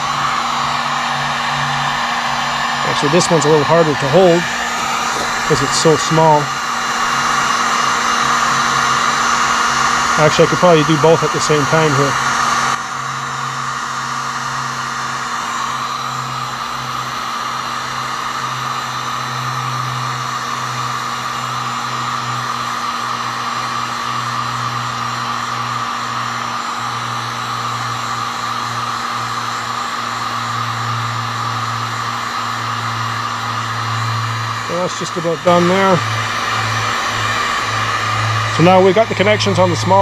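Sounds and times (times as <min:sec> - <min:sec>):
heat gun fan whirring: 0:00.0 - 0:40.0.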